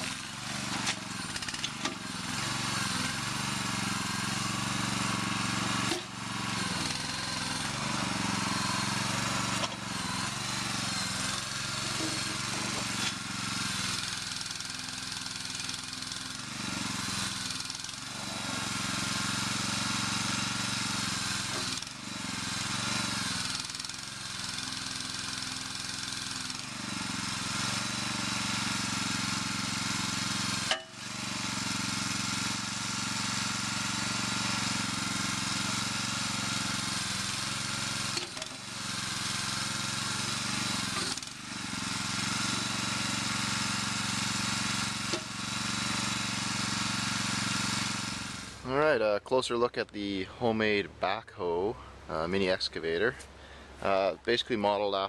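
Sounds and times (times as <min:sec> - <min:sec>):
small gas engine running: 0:00.0 - 0:49.0, 0:53.2 - 0:54.0.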